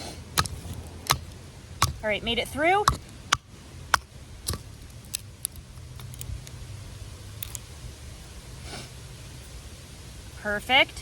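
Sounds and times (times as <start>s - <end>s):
firewood rustling: 0.0s - 10.4s
low steady rumble: 0.0s - 11.0s.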